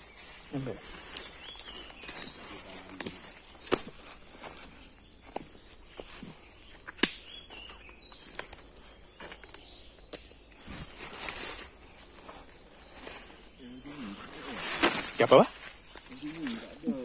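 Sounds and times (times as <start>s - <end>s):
footsteps crunching dry leaves: 0.0s - 17.0s
high insect buzz: 0.0s - 17.0s
twigs cracking: 0.0s - 17.0s.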